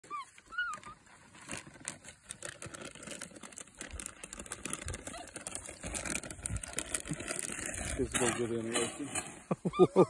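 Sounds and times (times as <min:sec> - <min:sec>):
plastic bag crinkling: 0:00.2 - 0:09.5.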